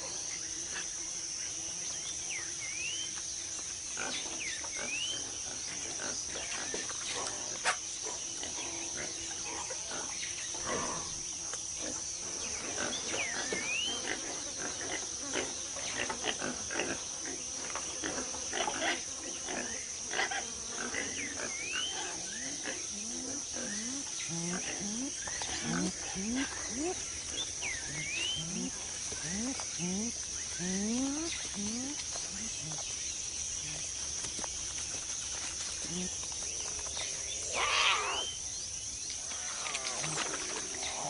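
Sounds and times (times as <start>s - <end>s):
high insect drone: 0.0s - 41.0s
animal calls and grunts: 3.9s - 34.5s, 35.4s - 38.4s, 39.2s - 41.0s.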